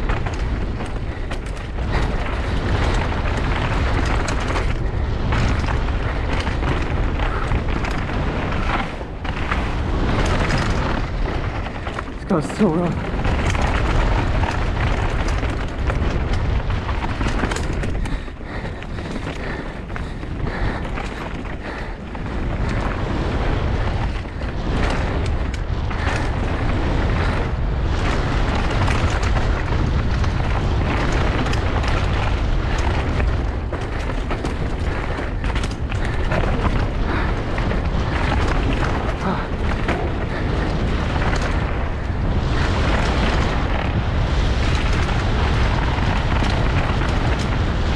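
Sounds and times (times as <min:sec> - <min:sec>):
bike knocking and rattling: 0:00.0 - 0:47.9
tyre rumble: 0:00.0 - 0:47.9
wind buffeting microphone: 0:00.0 - 0:47.9.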